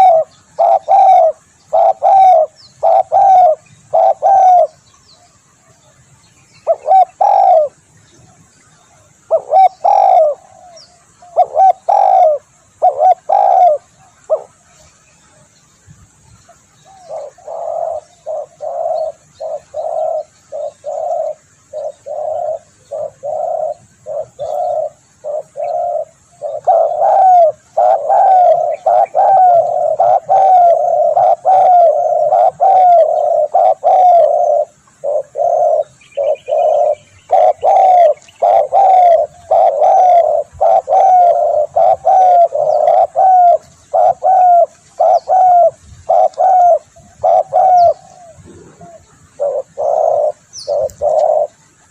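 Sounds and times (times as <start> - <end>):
dove cooing: 0.0 - 4.8, 6.6 - 7.9, 9.0 - 14.7, 16.5 - 51.9.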